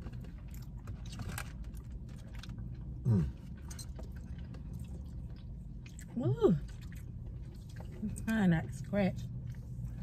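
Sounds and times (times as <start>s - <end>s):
chewing: 0.0s - 10.0s
low steady hum: 0.0s - 10.0s.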